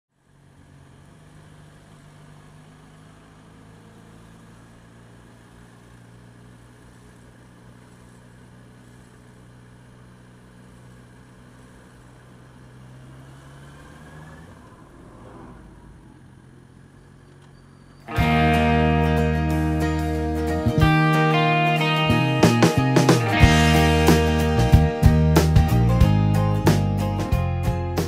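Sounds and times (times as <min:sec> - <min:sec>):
motorcycle engine running: 0:00.2 - 0:28.0.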